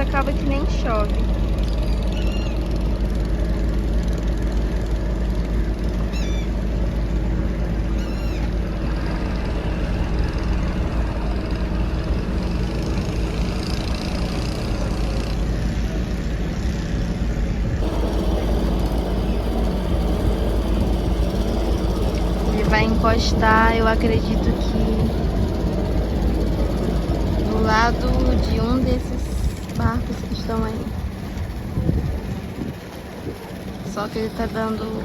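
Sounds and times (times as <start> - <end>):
ferry engine rumbling: 0.0 - 35.0
wind buffeting microphone: 0.0 - 35.0.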